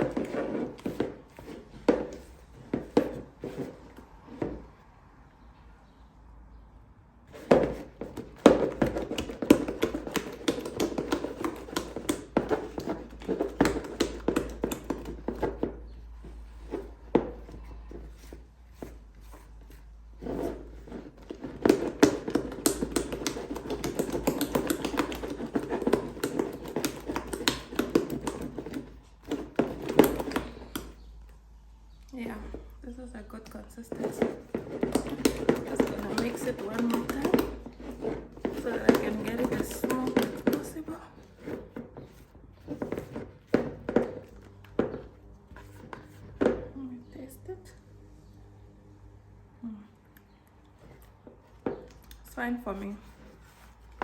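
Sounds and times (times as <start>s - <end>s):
utensil tapping and scraping bowl: 0.0s - 4.6s, 7.3s - 31.2s, 32.0s - 46.7s.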